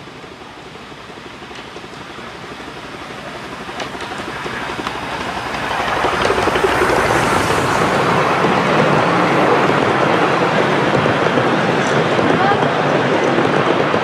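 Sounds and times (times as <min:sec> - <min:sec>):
carriages rolling on track: 0:00.0 - 0:14.0
miniature steam locomotive passing: 0:00.0 - 0:14.0.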